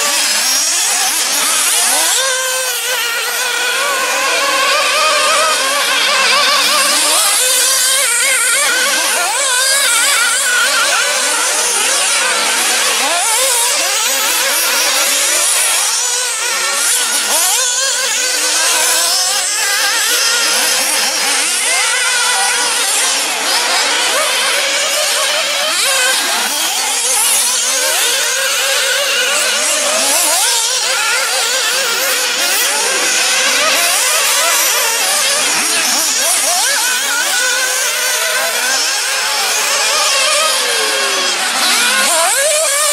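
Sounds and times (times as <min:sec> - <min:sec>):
small model engines whining: 0:00.0 - 0:42.9.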